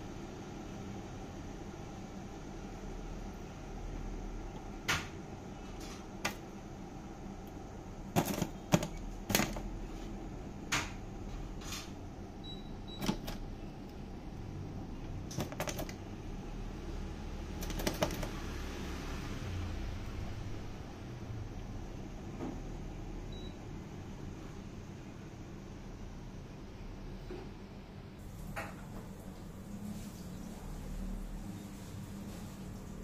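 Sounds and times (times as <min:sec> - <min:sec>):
steady low hum: 0:00.0 - 0:32.3.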